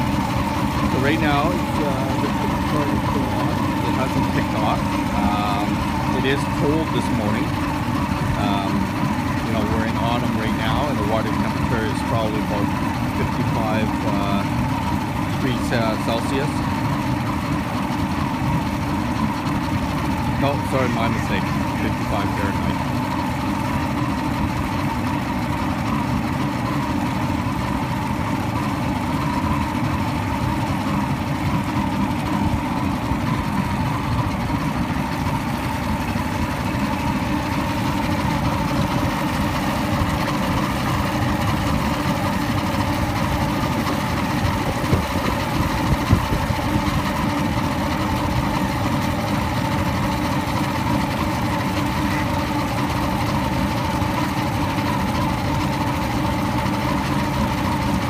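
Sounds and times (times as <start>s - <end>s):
outboard motor idling: 0.0s - 58.0s.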